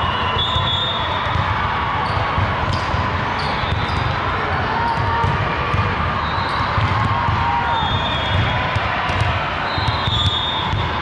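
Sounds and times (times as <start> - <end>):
balls bouncing on gym floor: 1.2 - 4.2, 4.8 - 11.0.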